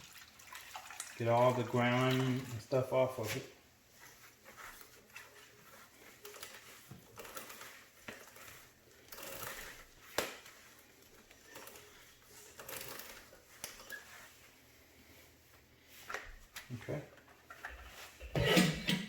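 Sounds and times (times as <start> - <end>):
scrubbing and wiping wheel rim: 1.2 - 18.3.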